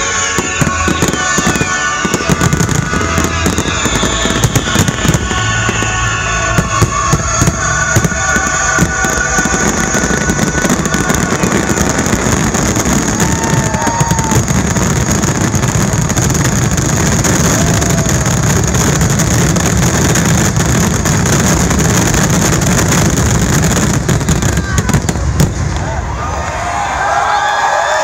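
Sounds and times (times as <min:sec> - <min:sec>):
fireworks bursts and crackling: 0:00.0 - 0:26.6.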